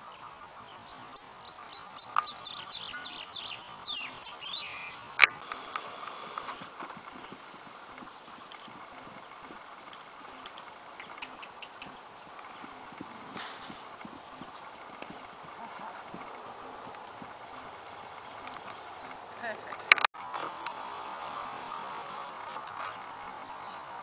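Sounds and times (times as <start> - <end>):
hooves trotting on grass: 0.0 - 24.0.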